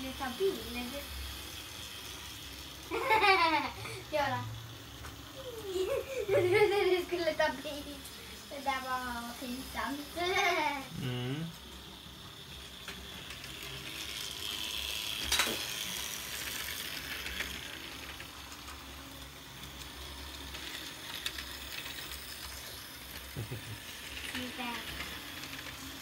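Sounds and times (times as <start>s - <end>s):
toy train motors whirring: 0.0s - 26.0s.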